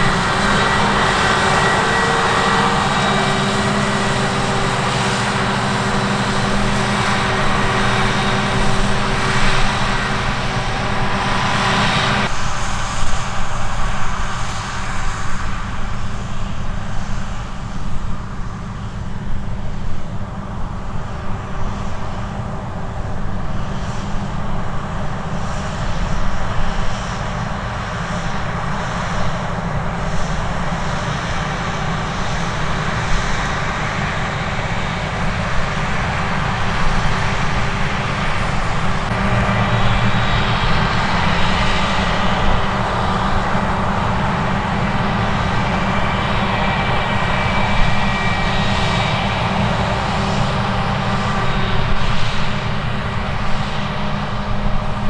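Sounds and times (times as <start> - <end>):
farm machinery diesel engines: 0.0 - 55.0.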